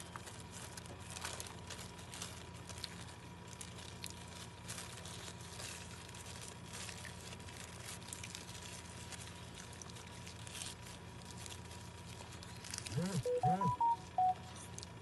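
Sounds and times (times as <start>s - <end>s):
wrapper crinkling: 0.0s - 12.9s.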